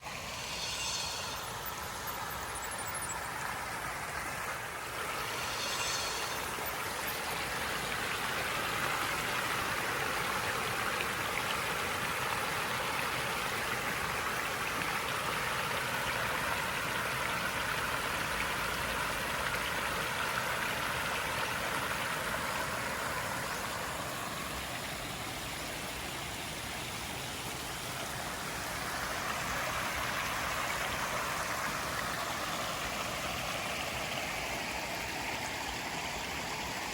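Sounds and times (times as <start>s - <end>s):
waterfall rushing and splashing: 0.0s - 36.9s.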